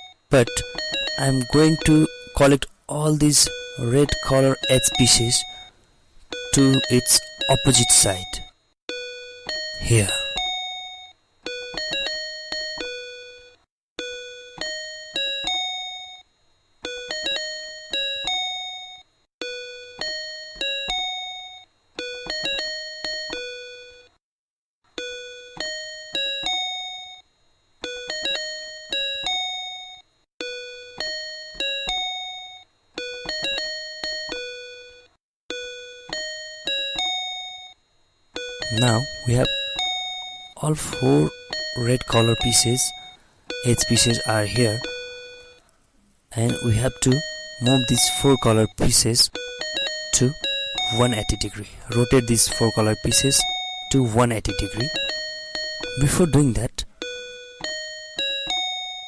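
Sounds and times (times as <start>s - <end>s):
simple background melody: 0.0s - 24.2s, 24.9s - 59.0s.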